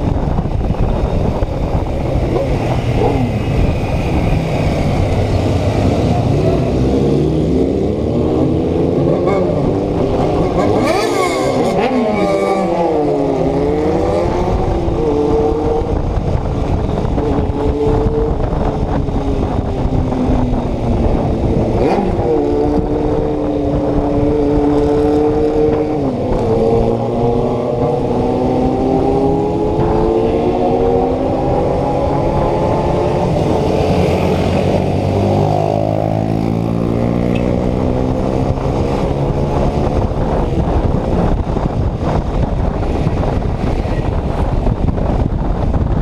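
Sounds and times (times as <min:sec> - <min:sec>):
motorcycle engine revving: 0:00.3 - 0:46.0.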